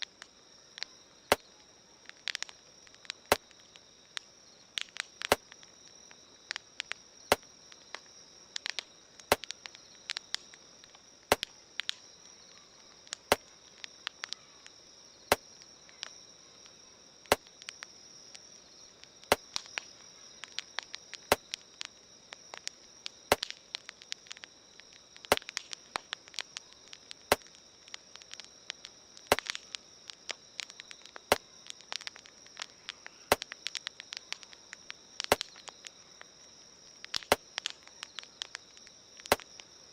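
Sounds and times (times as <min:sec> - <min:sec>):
campfire crackling: 0:00.0 - 0:39.9
insects chirring: 0:00.0 - 0:39.9.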